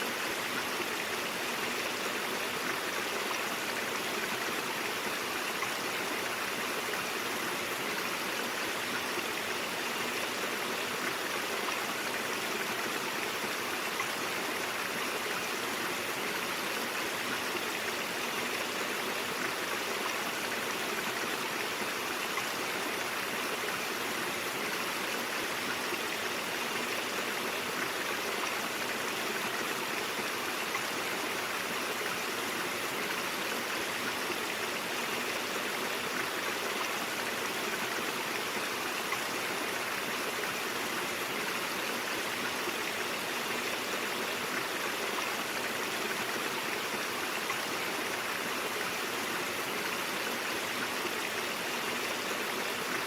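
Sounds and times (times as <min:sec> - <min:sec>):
brook water flowing: 0:00.0 - 0:53.0.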